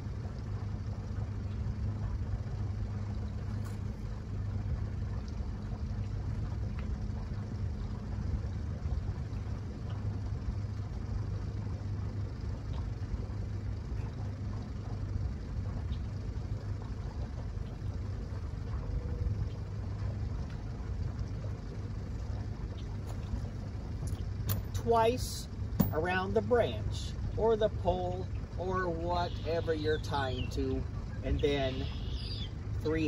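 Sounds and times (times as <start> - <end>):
outboard motor idling: 0.0 - 33.0.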